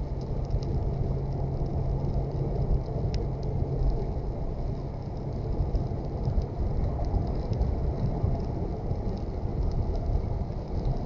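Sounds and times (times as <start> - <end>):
raindrops ticking: 0.0 - 11.0
road and tyre rumble: 0.0 - 11.0.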